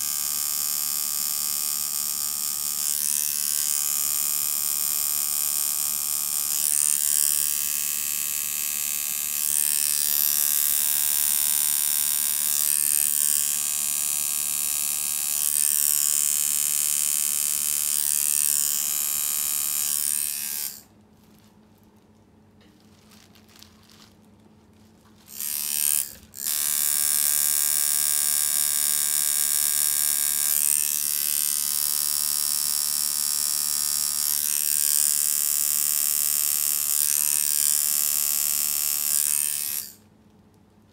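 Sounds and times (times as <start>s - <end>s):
tattoo machine buzzing: 0.0s - 20.9s, 25.3s - 40.0s.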